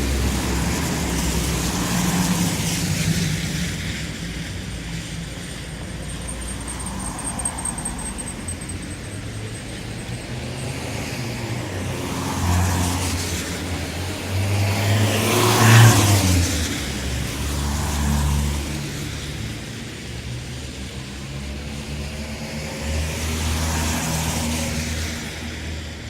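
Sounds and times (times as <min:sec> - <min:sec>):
low engine noise: 0:00.0 - 0:26.0
tyres hissing on wet road: 0:00.0 - 0:26.0.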